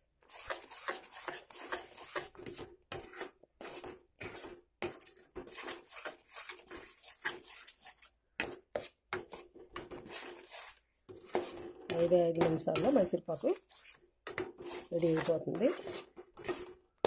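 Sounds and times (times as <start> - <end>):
spatula scraping batter in pan: 0.2 - 17.0.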